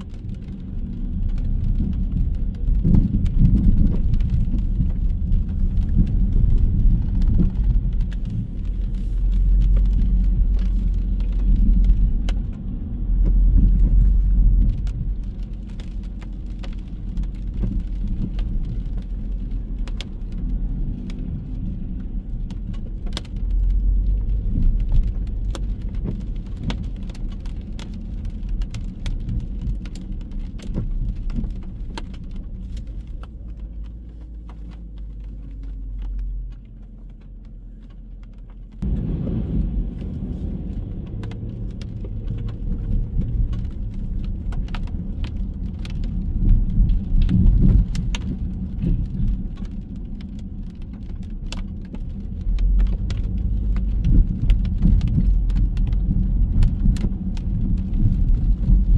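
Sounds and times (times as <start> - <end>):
raindrops ticking: 0.0 - 58.9
road traffic on wet street: 0.0 - 58.9.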